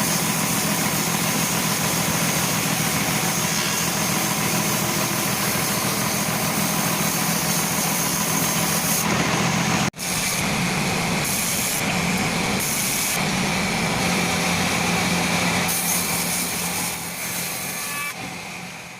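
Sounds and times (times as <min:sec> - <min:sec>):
saw blade whine: 0:00.0 - 0:18.9
sawmill saw droning: 0:00.0 - 0:18.9.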